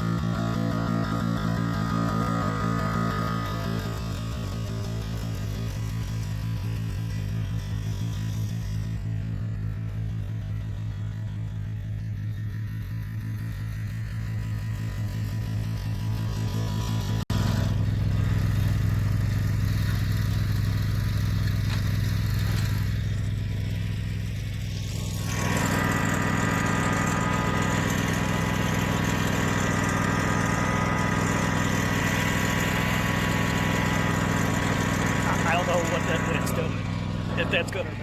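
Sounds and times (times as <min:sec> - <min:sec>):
lawn tractor engine running: 0:00.0 - 0:38.0.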